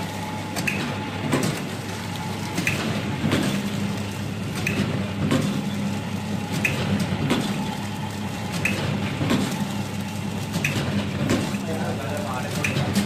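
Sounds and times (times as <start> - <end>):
machine hum: 0.0 - 13.0
packing machine clack: 0.0 - 13.0.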